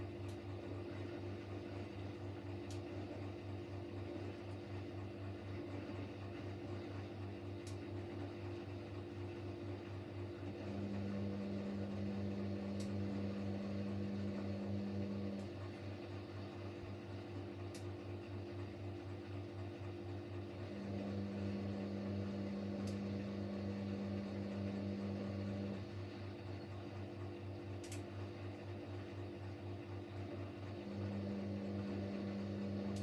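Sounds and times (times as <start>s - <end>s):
washing machine spinning hum: 0.0s - 33.0s.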